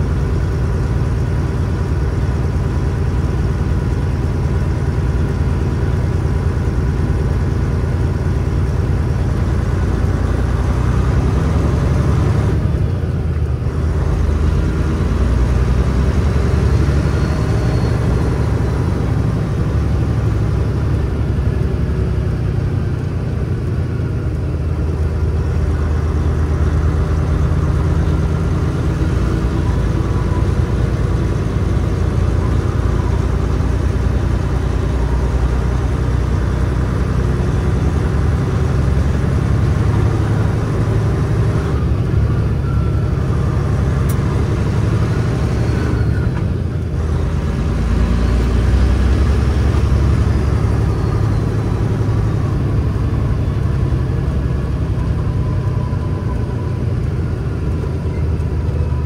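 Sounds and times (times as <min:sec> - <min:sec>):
heavy truck engine rumble: 0:00.0 - 0:59.0.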